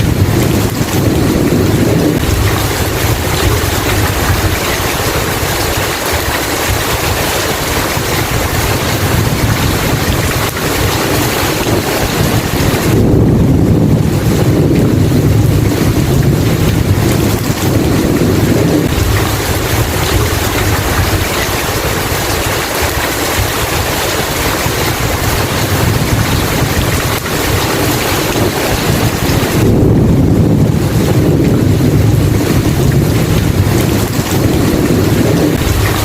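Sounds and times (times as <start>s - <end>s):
heavy rain: 0.0s - 36.0s
thunder rumble: 0.0s - 36.0s.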